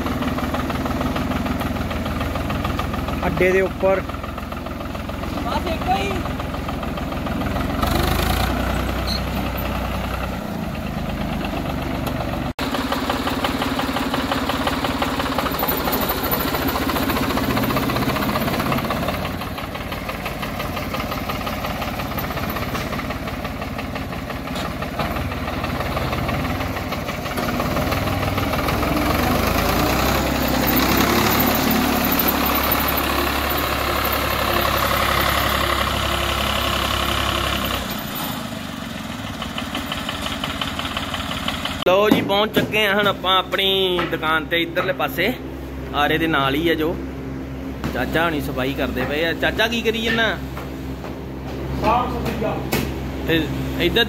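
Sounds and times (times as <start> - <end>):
vehicle engine driving: 0.0 - 54.0.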